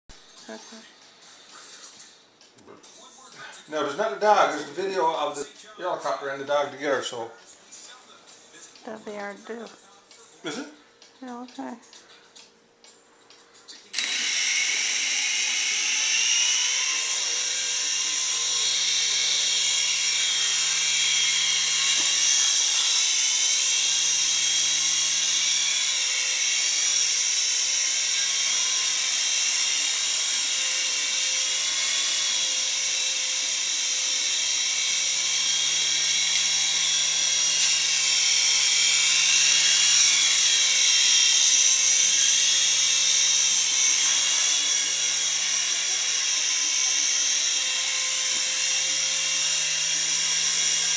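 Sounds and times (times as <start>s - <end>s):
toy helicopter motor whine: 3.2s - 7.2s, 13.9s - 50.9s.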